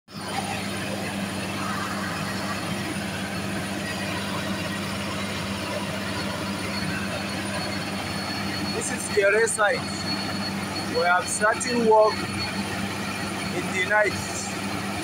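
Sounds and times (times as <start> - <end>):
diesel engine humming: 0.1 - 15.0.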